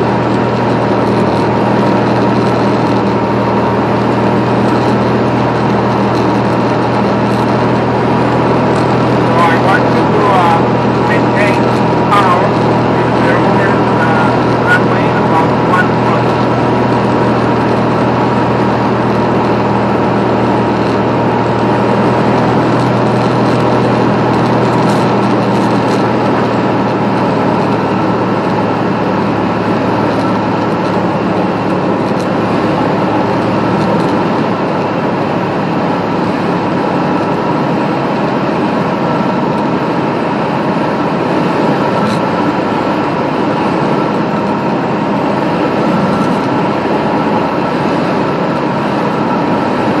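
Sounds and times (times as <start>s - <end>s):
aircraft engine and propeller drone: 0.0s - 50.0s.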